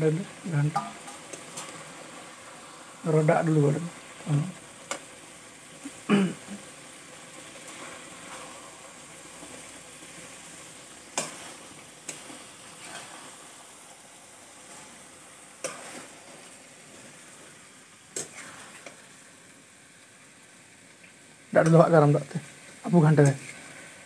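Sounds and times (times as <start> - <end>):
curry sizzling in a pan: 0.0 - 24.0.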